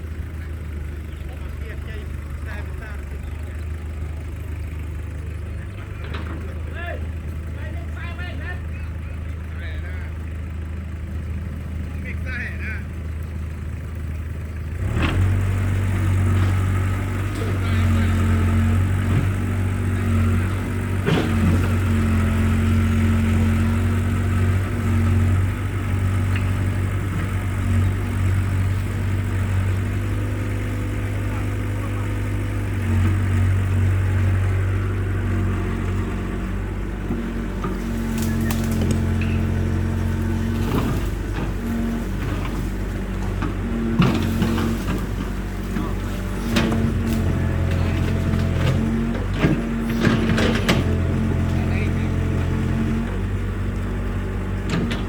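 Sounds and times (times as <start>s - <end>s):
excavator diesel engine under load: 0.0s - 55.0s.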